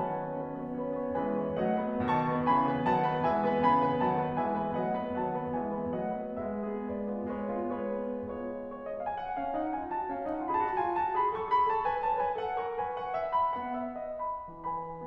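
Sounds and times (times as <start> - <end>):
classical piano music: 0.0 - 15.0.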